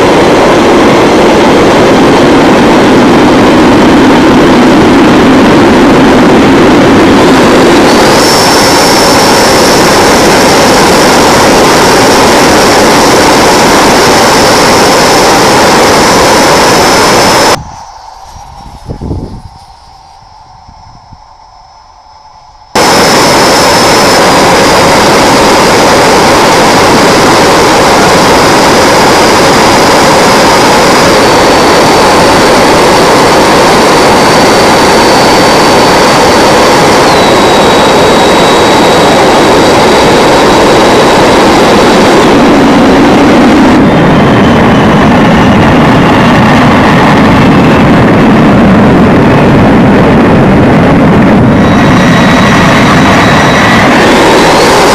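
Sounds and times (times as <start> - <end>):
model jet roar: 0.0 - 54.9
thin high whine: 0.0 - 54.9.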